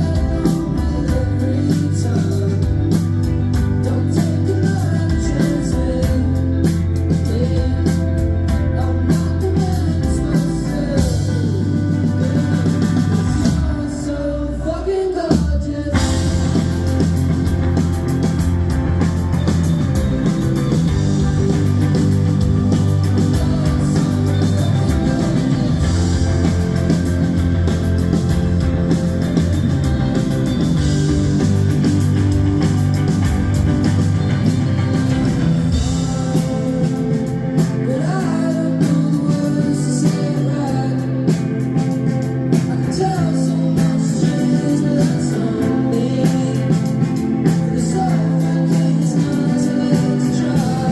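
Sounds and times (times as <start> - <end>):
indie rock band playing: 0.0 - 50.9
person singing: 0.0 - 50.9.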